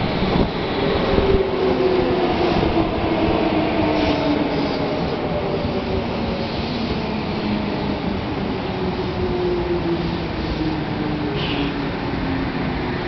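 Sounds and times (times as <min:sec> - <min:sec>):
falling whine of braking train: 0:00.0 - 0:13.0
train wheel and rail noise: 0:00.0 - 0:13.0.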